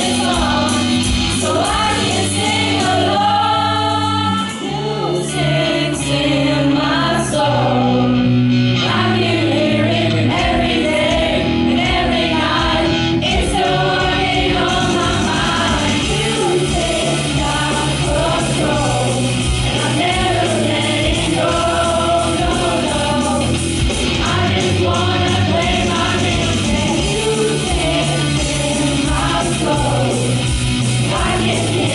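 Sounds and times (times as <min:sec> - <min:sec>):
group of voices singing: 0:00.0 - 0:31.9.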